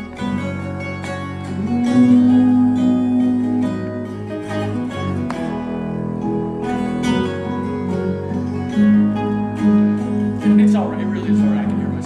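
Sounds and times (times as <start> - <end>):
acoustic guitar: 0.0 - 12.0
string instruments: 0.0 - 12.0.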